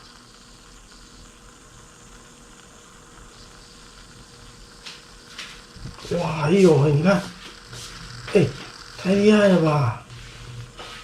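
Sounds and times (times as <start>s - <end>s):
espresso maker hissing: 0.0s - 11.0s.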